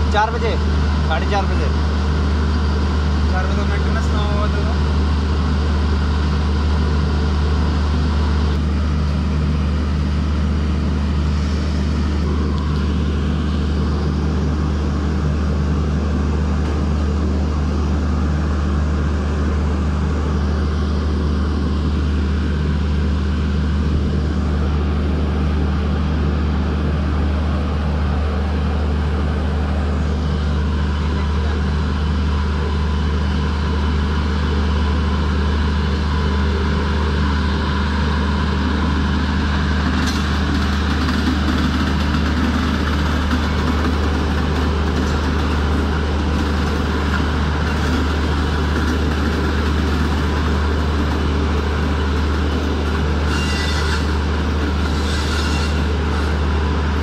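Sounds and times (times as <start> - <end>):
electric locomotive rolling past: 0.0 - 57.0
low hum of railway machinery: 0.0 - 57.0.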